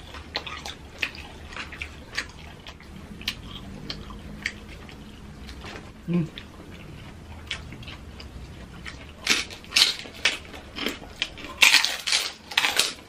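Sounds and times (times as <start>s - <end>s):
crunching crisp pork rinds: 0.0s - 4.9s, 6.4s - 13.0s.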